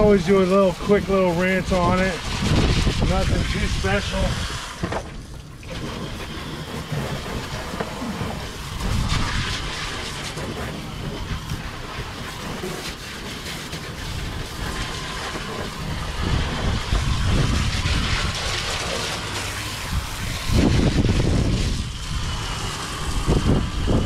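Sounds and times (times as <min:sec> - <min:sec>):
wind on microphone: 0:00.0 - 0:13.3, 0:13.9 - 0:24.0
water spraying from a hose: 0:00.0 - 0:24.0.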